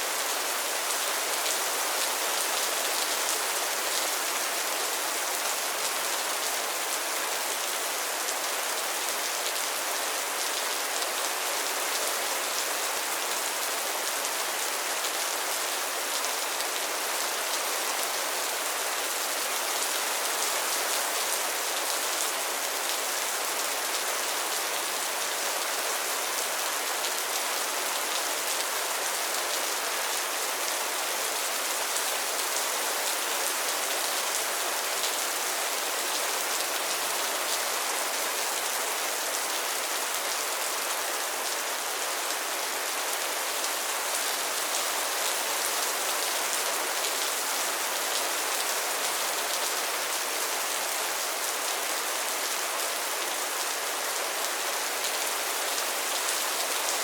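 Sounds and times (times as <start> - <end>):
rain falling on a pond: 0.0 - 57.0.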